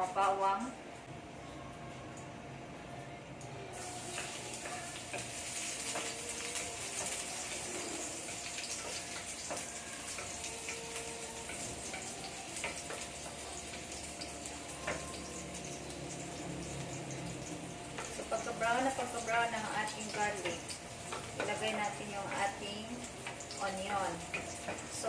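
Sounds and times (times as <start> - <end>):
garlic sizzling in hot oil: 3.7 - 25.0.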